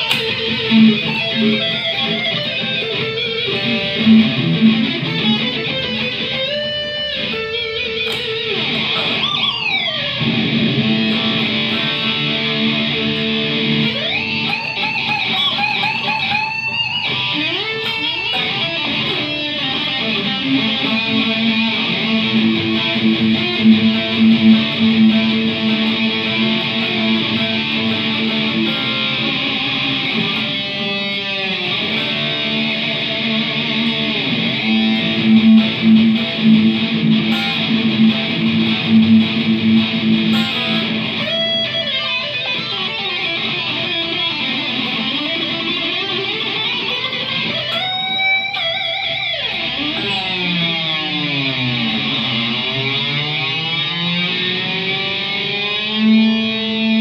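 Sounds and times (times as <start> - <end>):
electric guitar lead with vibrato: 0.0 - 57.0.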